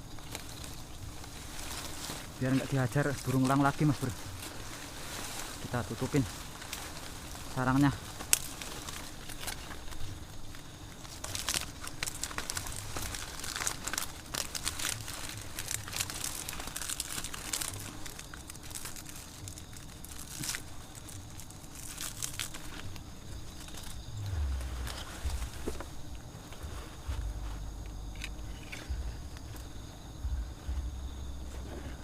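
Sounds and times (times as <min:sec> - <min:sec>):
tearing or crunching: 0:00.0 - 0:29.7
covering crinkling and rustling: 0:00.0 - 0:29.8.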